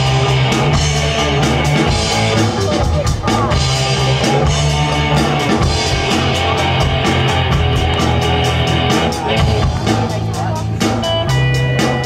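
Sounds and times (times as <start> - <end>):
bass line: 0.0 - 12.0
drum kit beats: 0.0 - 12.0
electric guitars: 0.0 - 12.0.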